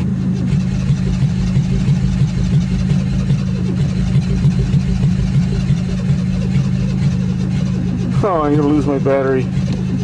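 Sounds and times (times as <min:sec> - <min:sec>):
car engine cranking on starter: 0:00.0 - 0:10.0.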